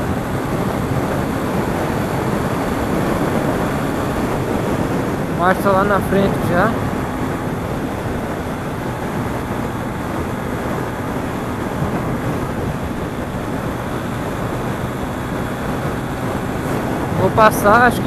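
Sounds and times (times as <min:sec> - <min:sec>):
motorcycle engine cruising: 0:00.0 - 0:18.0
wind rush on microphone: 0:00.0 - 0:18.0.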